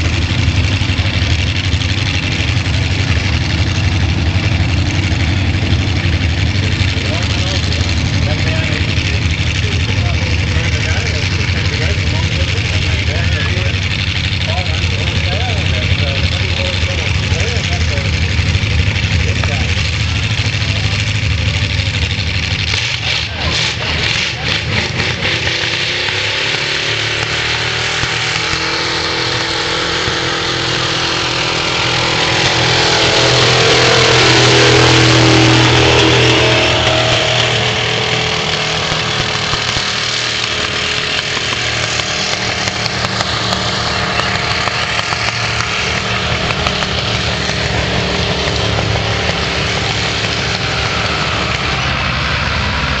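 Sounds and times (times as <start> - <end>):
tractor engine under load: 0.0 - 53.0.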